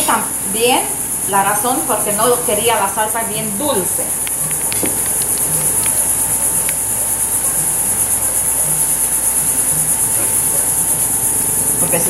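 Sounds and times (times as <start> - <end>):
pulsing insect chorus: 0.0 - 12.0.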